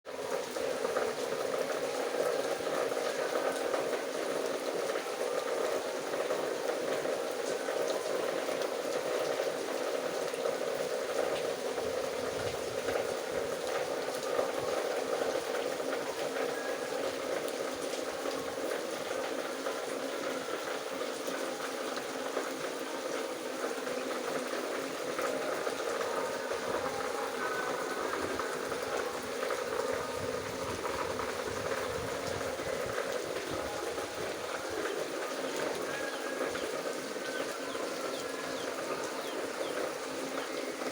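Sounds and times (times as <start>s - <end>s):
steady rain hiss: 0.1s - 40.9s.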